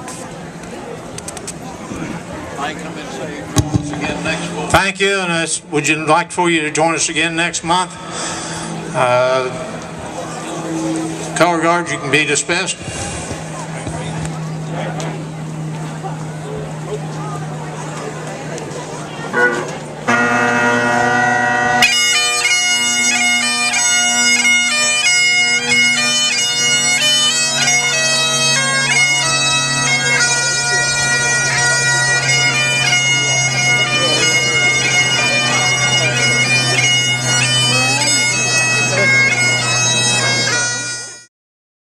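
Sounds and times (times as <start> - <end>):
bagpipes playing a tune: 2.5 - 18.2, 19.1 - 41.3.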